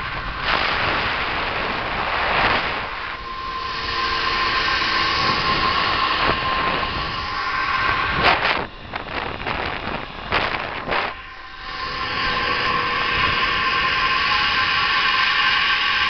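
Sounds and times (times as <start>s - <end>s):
air rushing past microphone: 0.0s - 15.8s
pulley wheels whining on cable: 0.0s - 16.0s.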